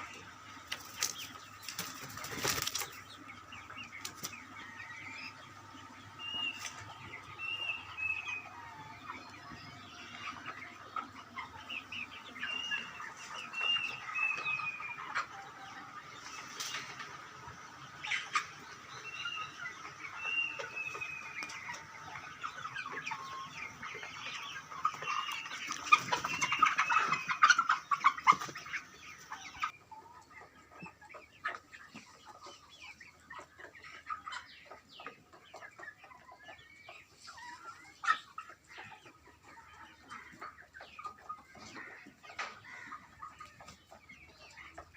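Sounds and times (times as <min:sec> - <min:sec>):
chickens clucking and chirping: 0:00.0 - 0:44.9.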